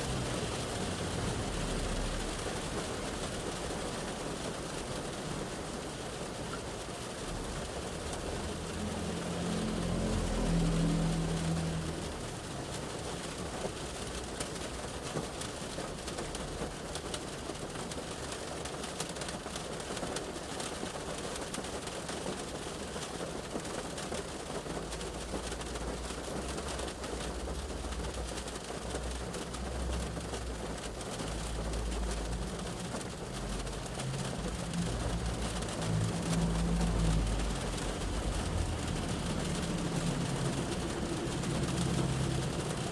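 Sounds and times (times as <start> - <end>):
passing traffic rumble: 0.0 - 42.9
rain on car roof and windows: 0.0 - 42.9.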